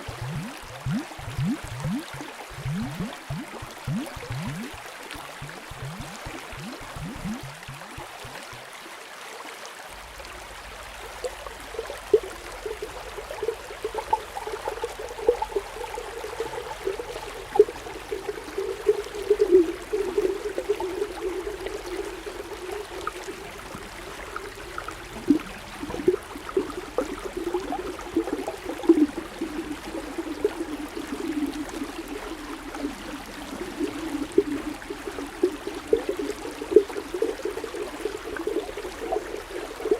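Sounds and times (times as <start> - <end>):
underwater bubbling water: 0.0 - 8.7, 9.9 - 39.9.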